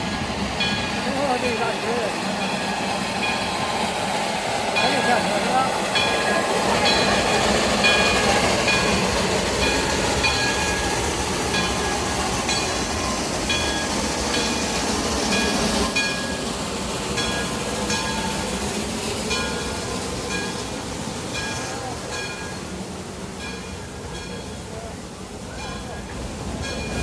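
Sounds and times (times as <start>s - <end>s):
steam train rumbling: 0.0s - 27.0s.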